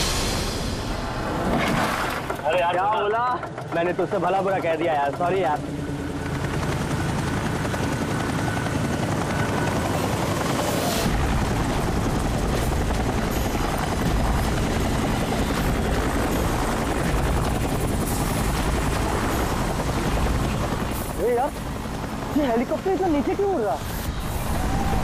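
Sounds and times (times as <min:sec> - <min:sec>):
helicopter flying over: 0:02.4 - 0:25.0.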